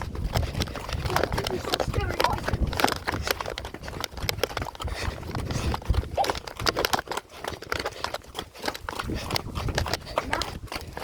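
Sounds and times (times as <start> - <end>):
footsteps crunching on rough ground: 0.0 - 11.0.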